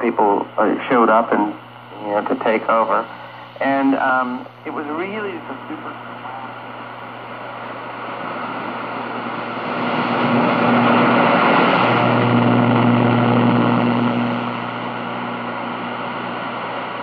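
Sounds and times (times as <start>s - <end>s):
shortwave radio static hiss: 0.0s - 17.0s
low hum: 0.2s - 17.0s.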